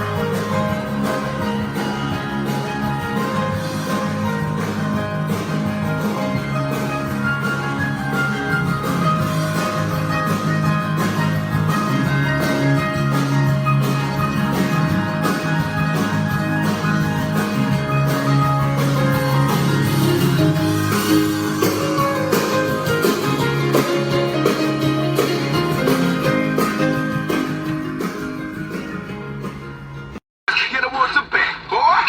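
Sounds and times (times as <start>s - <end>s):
guitar music with steady beat: 0.0s - 30.2s.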